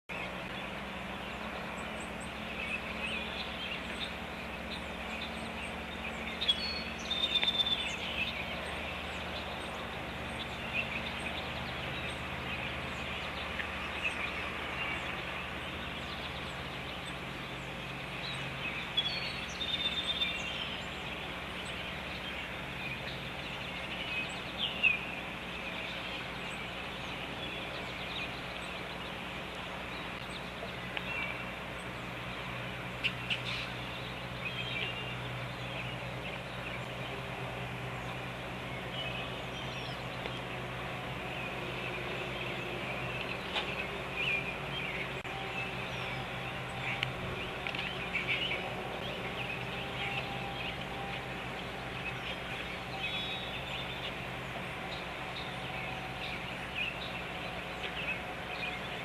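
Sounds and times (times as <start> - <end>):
outdoor background noise: 0.0 - 59.0
birds calling: 0.1 - 59.0
low hum: 0.1 - 59.0.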